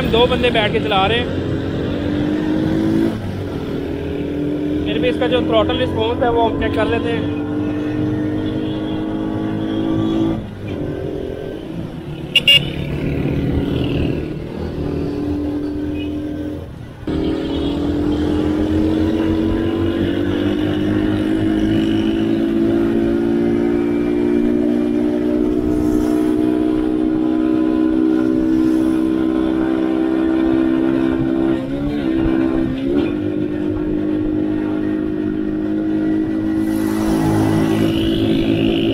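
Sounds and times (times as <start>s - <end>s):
motorcycle engine accelerating: 0.0s - 11.5s, 12.5s - 38.9s.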